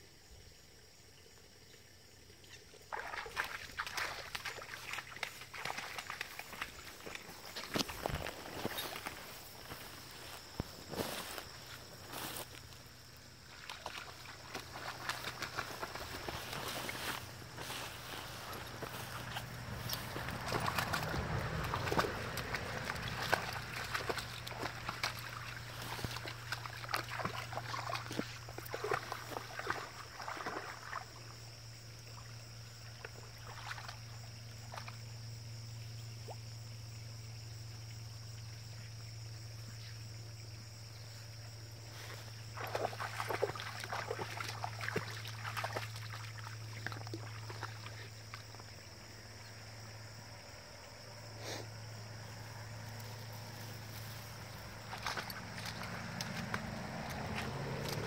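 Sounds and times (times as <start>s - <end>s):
water splashing and sloshing: 2.4s - 35.3s, 41.4s - 49.7s, 52.2s - 58.0s.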